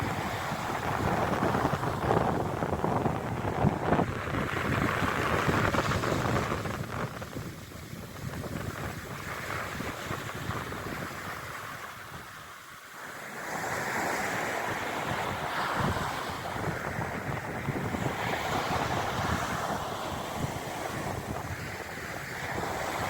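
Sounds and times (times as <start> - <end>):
wind buffeting microphone: 0.0 - 12.6, 13.7 - 23.0
surf washing on shore: 0.0 - 23.0.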